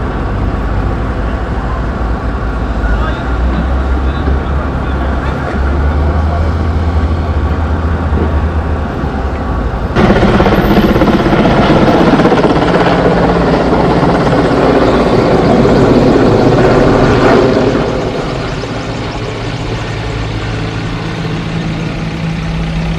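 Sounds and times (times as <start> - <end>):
helicopter rotor beating: 0.0 - 22.9
truck engine running: 0.0 - 22.9.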